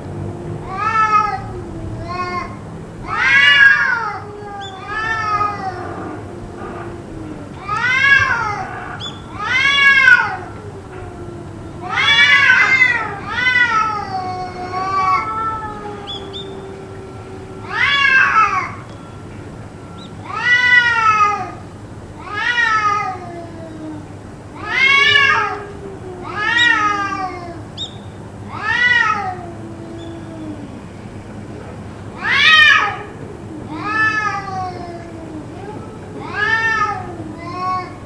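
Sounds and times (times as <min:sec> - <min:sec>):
cat yowling: 0:00.1 - 0:30.9, 0:32.1 - 0:38.0.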